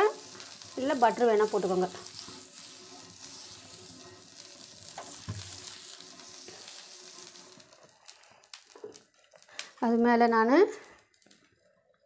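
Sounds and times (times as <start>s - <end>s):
batter sizzling on griddle: 0.0s - 11.6s.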